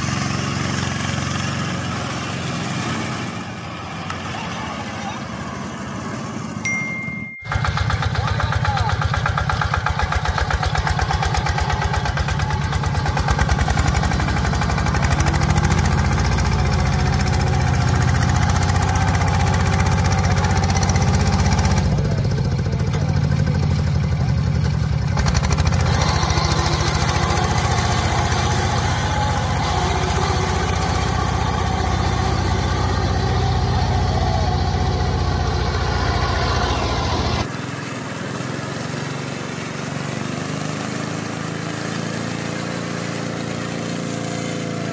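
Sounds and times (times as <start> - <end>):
diesel engine chugging: 0.0 - 44.9.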